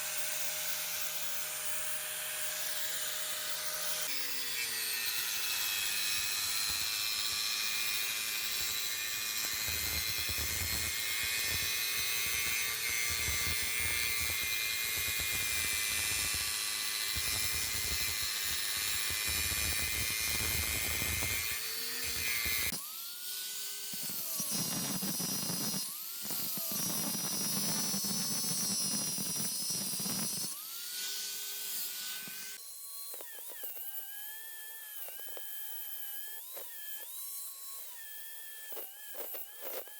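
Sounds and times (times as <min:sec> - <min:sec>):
electric grinder grinding steel: 0:00.0 - 0:39.9.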